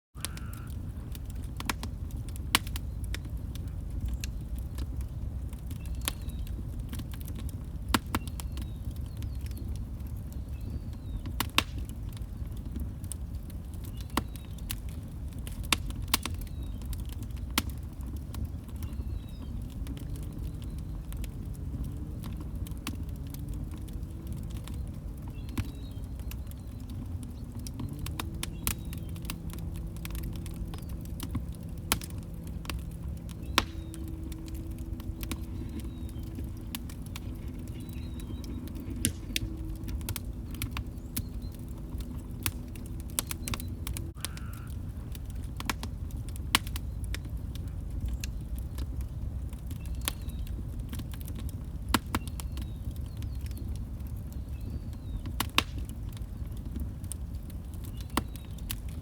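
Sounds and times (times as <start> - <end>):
log fire crackling: 0.2 - 59.0.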